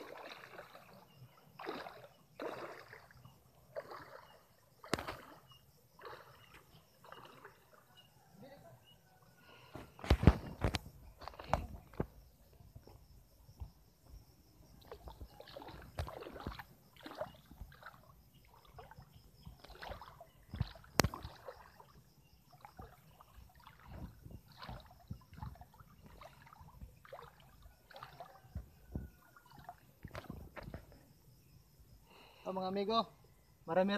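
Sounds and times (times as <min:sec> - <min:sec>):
water sloshing and splashing: 0:00.0 - 0:08.1, 0:09.6 - 0:31.2.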